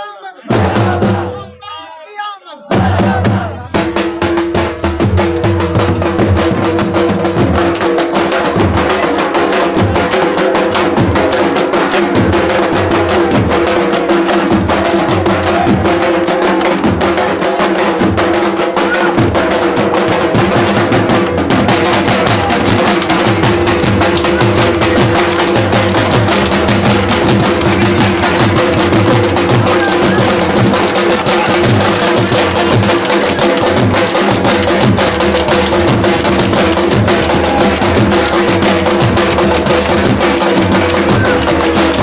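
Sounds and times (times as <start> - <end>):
barrel drum beaten with sticks: 0.5 - 1.4, 2.7 - 42.0.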